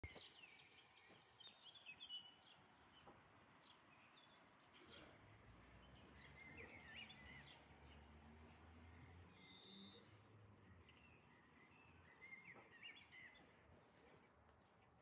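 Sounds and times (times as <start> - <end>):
faint birdsong chirps: 0.0 - 15.0.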